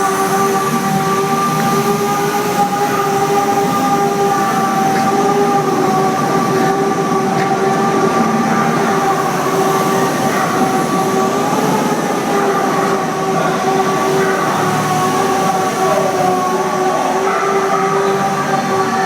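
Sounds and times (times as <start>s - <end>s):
machine whine: 0.0s - 19.0s
rushing noise: 0.0s - 19.0s.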